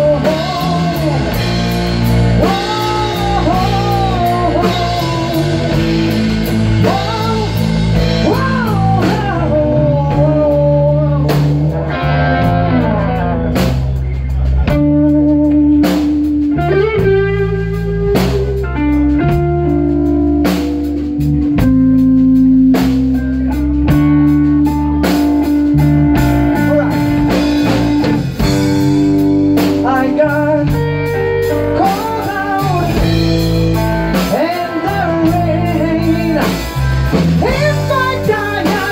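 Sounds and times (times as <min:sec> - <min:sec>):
bass: 0:00.0 - 0:38.9
drums: 0:00.0 - 0:38.9
electric guitar lead lines: 0:00.0 - 0:38.9.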